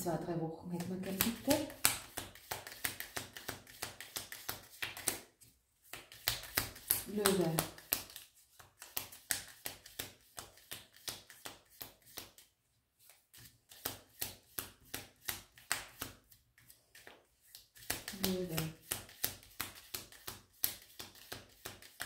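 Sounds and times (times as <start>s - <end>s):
cards being shuffled: 0.8s - 22.0s.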